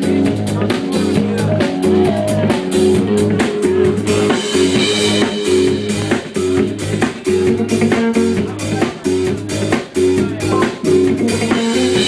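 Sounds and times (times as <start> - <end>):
drum kit: 0.0 - 12.0
electric guitar riff: 0.0 - 12.0
keyboards: 0.0 - 12.0.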